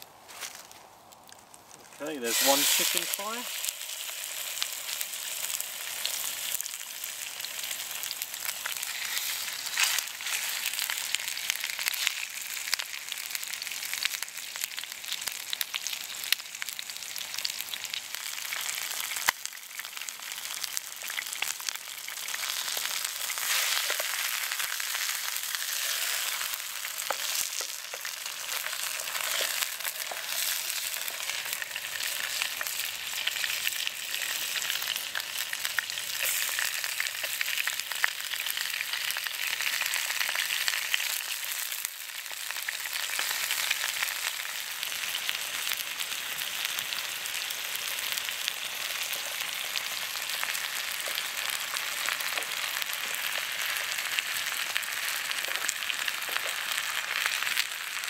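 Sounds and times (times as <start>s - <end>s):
chicken sizzling in hot oil: 2.0s - 58.0s.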